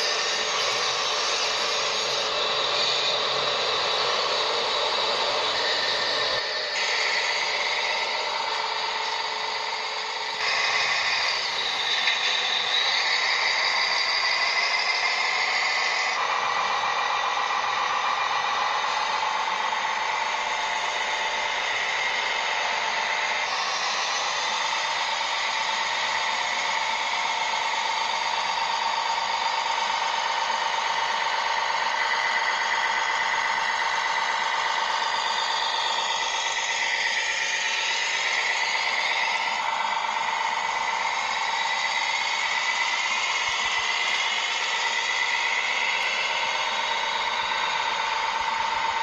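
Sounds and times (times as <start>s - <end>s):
small electric motors whining: 0.0s - 49.0s.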